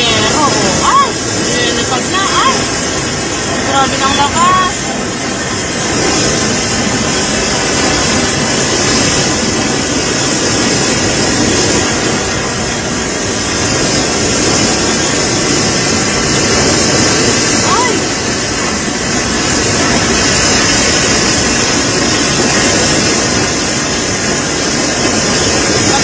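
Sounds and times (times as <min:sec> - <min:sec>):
heavy rain: 0:00.0 - 0:26.0
strong wind: 0:00.0 - 0:26.0
wind buffeting microphone: 0:00.0 - 0:26.0.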